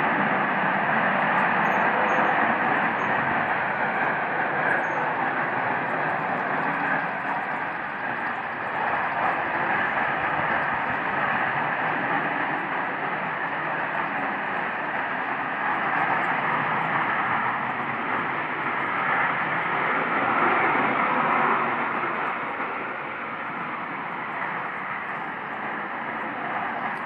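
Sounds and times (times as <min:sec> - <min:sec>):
loud jet-like noise in the sky: 0:00.0 - 0:27.0.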